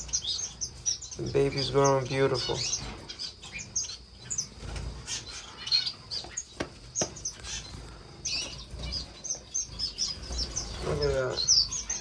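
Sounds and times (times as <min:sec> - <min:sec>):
finches chirping: 0:00.0 - 0:12.0.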